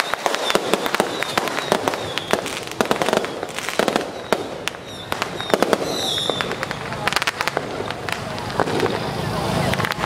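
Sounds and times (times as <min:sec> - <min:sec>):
firecrackers cracking: 0:00.0 - 0:10.0.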